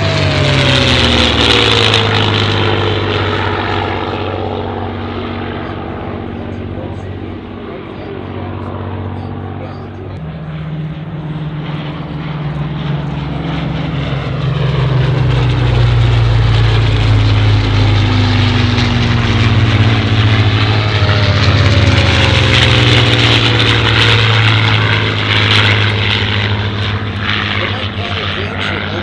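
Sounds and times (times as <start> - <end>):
propeller planes droning past: 0.0 - 29.0.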